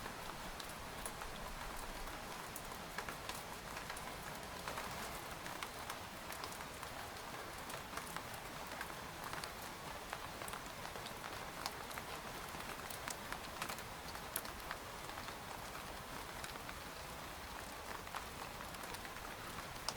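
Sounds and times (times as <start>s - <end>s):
rain on a tent: 0.0s - 19.9s.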